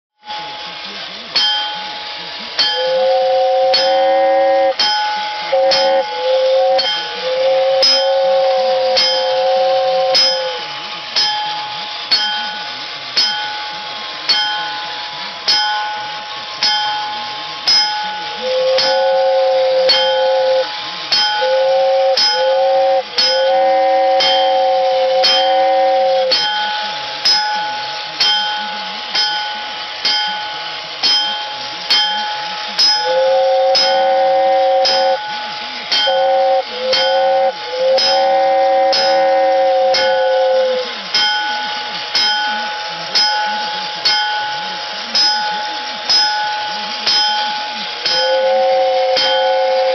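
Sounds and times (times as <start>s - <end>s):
toy train bell dinging: 0.2s - 49.9s
two-tone toy train whistle: 0.2s - 49.9s
toy motor humming: 0.4s - 49.9s.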